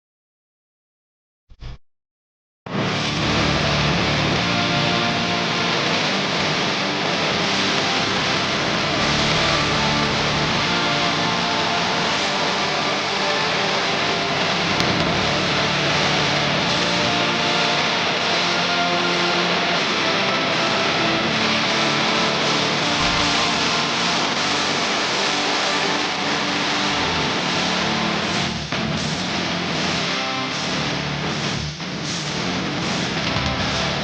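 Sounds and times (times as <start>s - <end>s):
guitar rock music: 2.7s - 34.0s.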